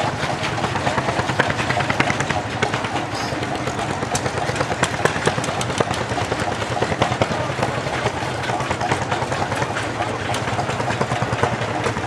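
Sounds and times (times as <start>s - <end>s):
low engine drone: 0.0s - 12.0s
tractor engines knocking: 0.0s - 12.0s.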